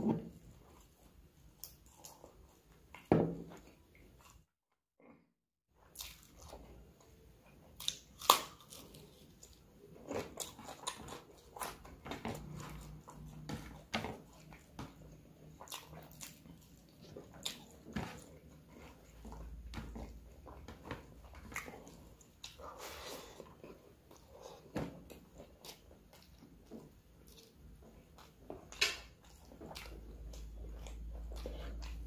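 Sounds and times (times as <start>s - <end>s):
chewing and wet mouth noises: 5.8s - 32.0s.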